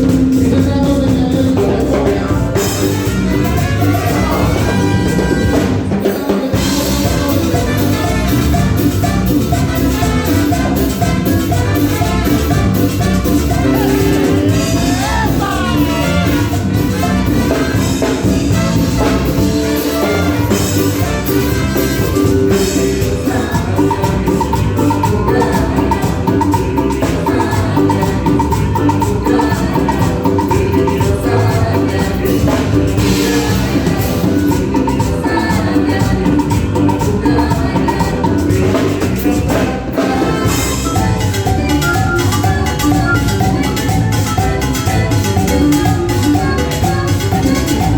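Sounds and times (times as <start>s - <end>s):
live band playing latin dance music: 0.0s - 47.9s.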